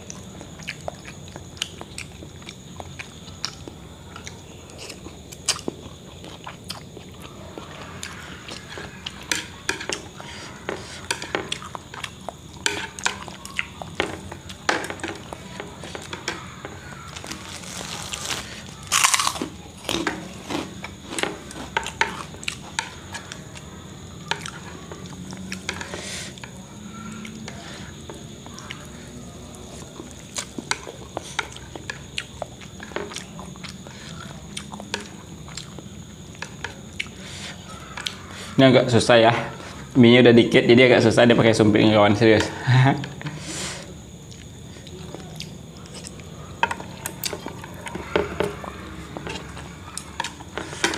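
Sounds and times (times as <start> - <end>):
person chewing food: 0.0 - 26.6, 27.2 - 38.6, 43.2 - 50.9.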